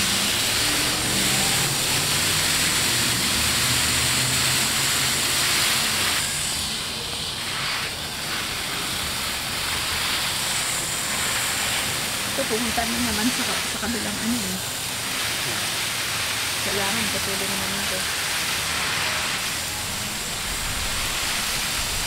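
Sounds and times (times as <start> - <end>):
hose spray hissing on soil: 0.0 - 22.0.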